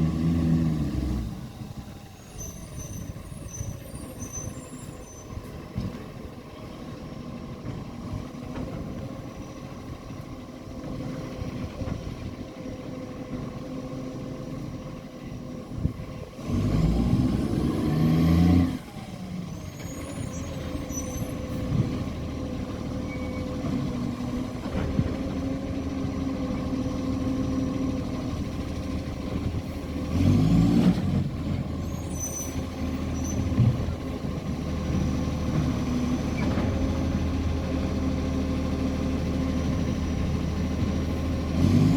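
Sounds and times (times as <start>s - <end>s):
diesel truck engine revving: 0.0s - 4.8s, 10.4s - 41.9s.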